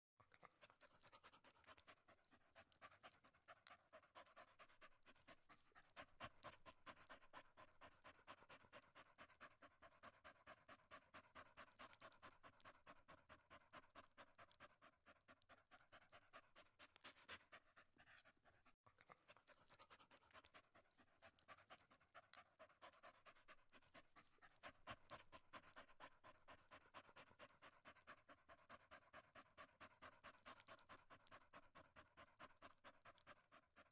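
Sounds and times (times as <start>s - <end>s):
dog panting: 0.2s - 33.9s.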